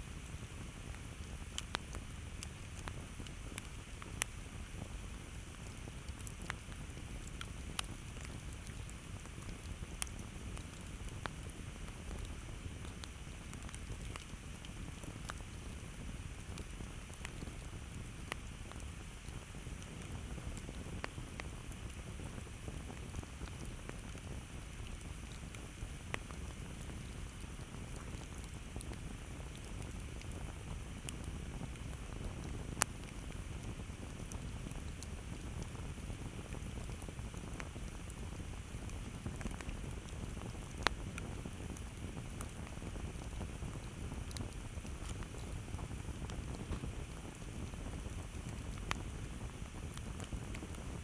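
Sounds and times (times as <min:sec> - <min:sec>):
low rumble of flames: 0:00.0 - 0:51.0
wood crackling and popping: 0:00.2 - 0:51.0.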